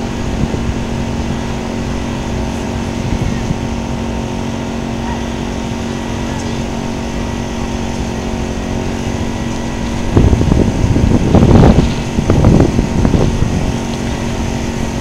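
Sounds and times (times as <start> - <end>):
low engine hum: 0.0 - 15.0
wind buffeting microphone: 0.0 - 15.0.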